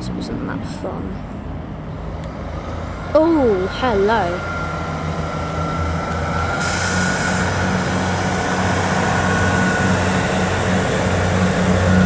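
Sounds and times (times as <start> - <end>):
train diesel engines droning: 0.0 - 12.0.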